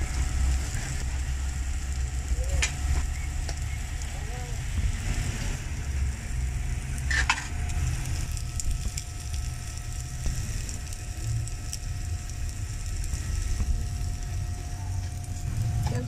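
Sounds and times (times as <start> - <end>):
food sizzling on a griddle: 0.0 - 16.0
low rumble: 0.0 - 16.0.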